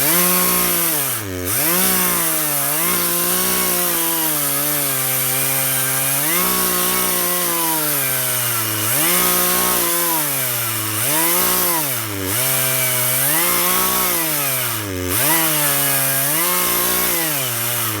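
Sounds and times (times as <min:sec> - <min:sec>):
chainsaw cutting log: 0:00.0 - 0:18.0.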